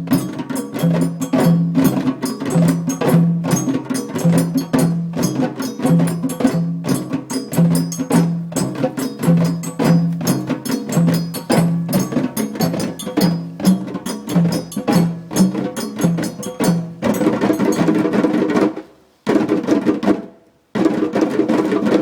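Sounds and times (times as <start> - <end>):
hand drumming on djembe: 0.0 - 22.0.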